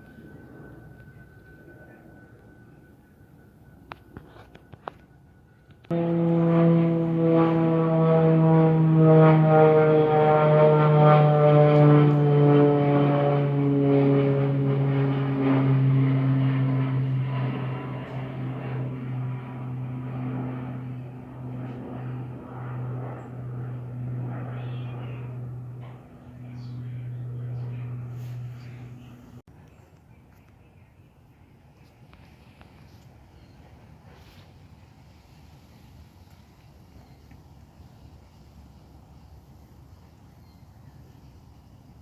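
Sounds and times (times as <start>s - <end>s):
airplane engine drone passing: 0.0s - 42.0s.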